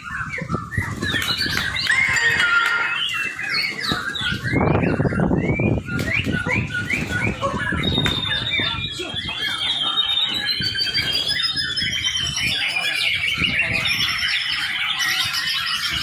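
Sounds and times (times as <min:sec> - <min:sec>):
bird chirping and whistling: 0:00.0 - 0:16.0.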